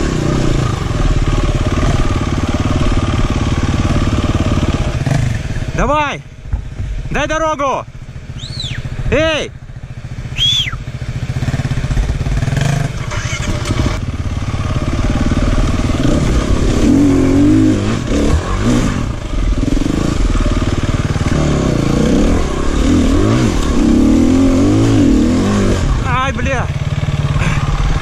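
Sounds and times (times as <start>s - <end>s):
dirt bike engine revving: 0.0s - 6.0s, 7.0s - 28.0s.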